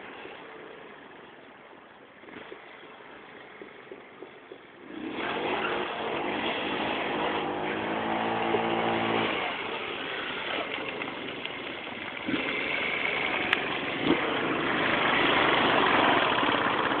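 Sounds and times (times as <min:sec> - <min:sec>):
scooter engine accelerating: 0:02.2 - 0:17.0.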